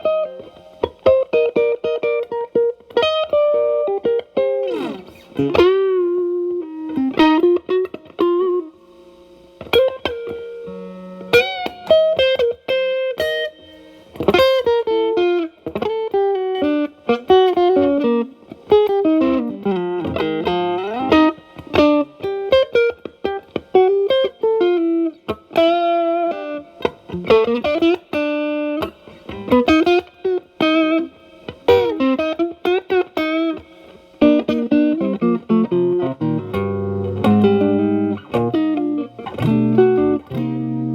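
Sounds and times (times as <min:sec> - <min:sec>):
distorted electric guitar blues lead: 0:00.0 - 0:40.9.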